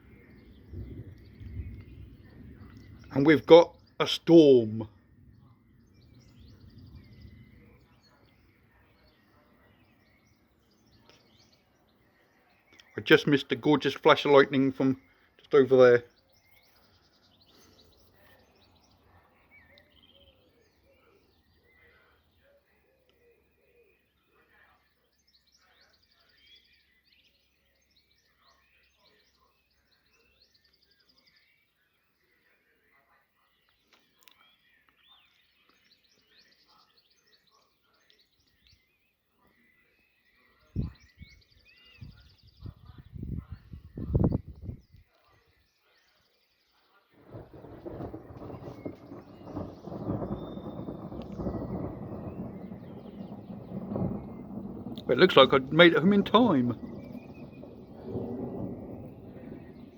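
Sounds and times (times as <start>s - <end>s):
faint bird chirps: 0.0s - 59.9s.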